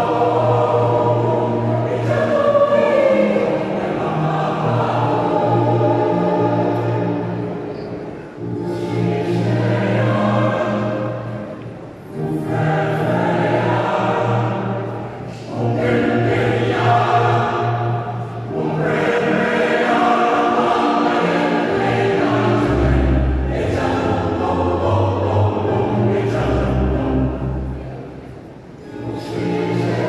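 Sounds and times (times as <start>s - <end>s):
mixed choir singing: 0.0s - 30.0s.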